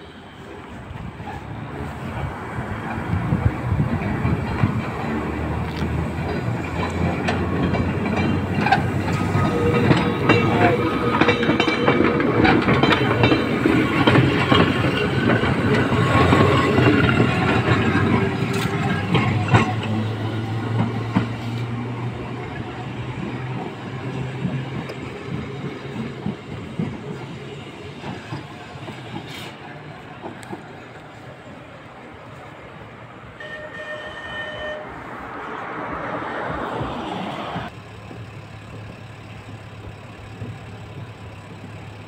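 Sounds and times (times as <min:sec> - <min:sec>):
tram wheels clattering over rails: 0:00.6 - 0:42.0.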